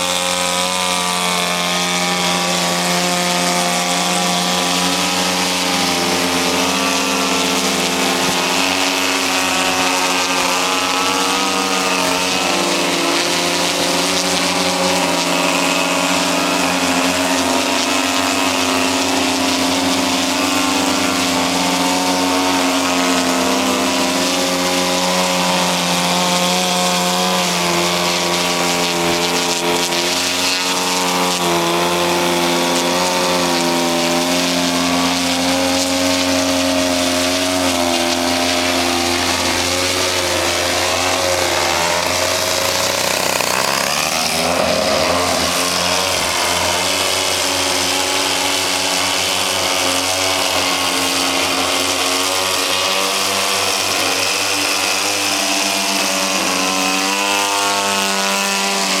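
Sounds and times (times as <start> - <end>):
two-stroke model plane engines: 0.0 - 59.0.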